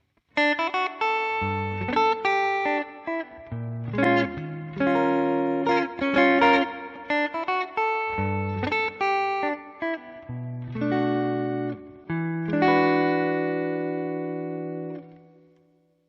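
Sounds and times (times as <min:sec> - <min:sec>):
electric guitar lick: 0:00.3 - 0:15.6.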